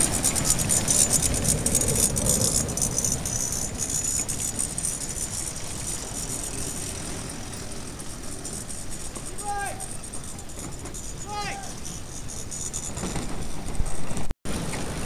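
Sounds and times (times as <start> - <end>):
rapid rattling: 0.0 - 14.3.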